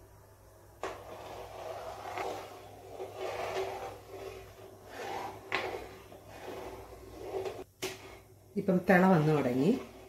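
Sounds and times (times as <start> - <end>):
metal ladle scraping a pot: 0.8 - 10.0.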